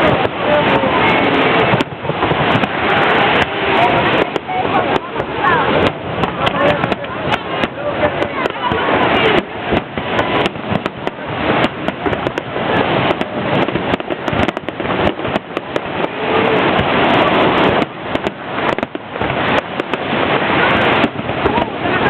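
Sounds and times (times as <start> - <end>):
dense rumble of bursts: 0.0 - 22.0
fireworks bangs and crackles: 0.0 - 22.0.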